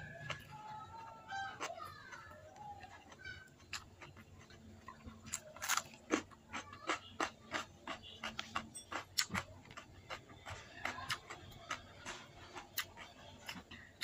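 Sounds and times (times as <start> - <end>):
person chewing with mouth clicks: 2.6 - 14.0.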